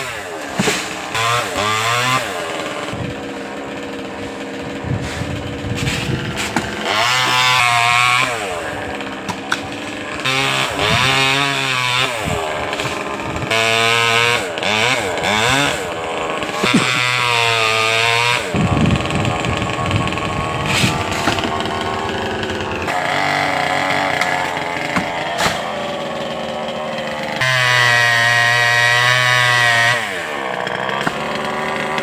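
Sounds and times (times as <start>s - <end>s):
chainsaw cutting a tree: 0.0s - 32.0s.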